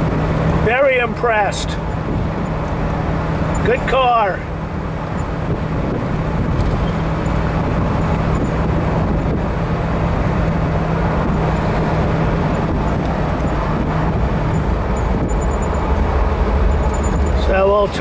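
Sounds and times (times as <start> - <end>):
car engine hum: 0.0 - 18.0
wind noise: 1.7 - 3.8, 4.6 - 17.6.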